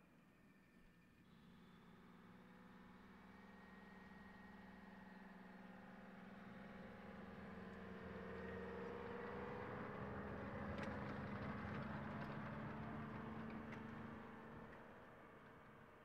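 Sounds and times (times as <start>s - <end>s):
tank engine running: 1.4s - 16.0s.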